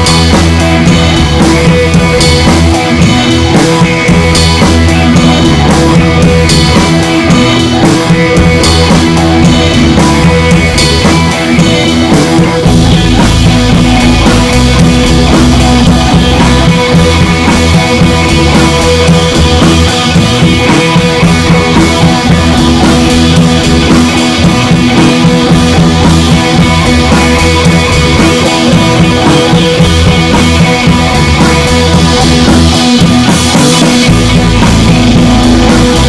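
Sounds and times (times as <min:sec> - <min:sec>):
music with drums and guitar: 0:00.0 - 0:36.0.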